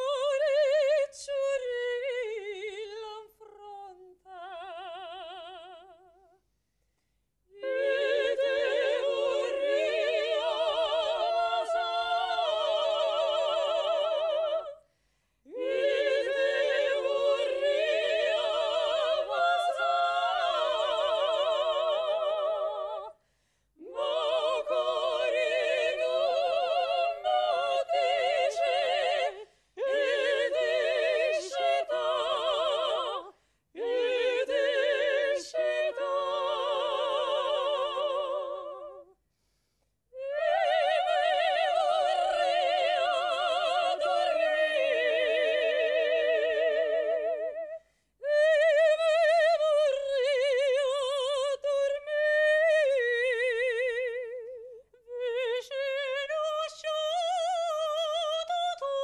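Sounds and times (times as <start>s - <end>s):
women singing operatic a cappella: 0.0s - 6.4s, 7.5s - 39.2s, 40.1s - 59.0s.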